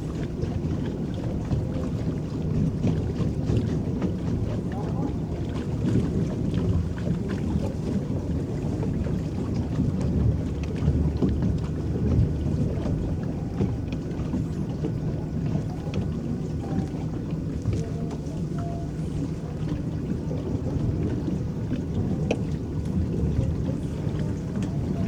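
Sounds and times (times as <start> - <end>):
faint splashes and ticks: 0.0 - 25.0
water rushing along boat hull: 0.0 - 25.0.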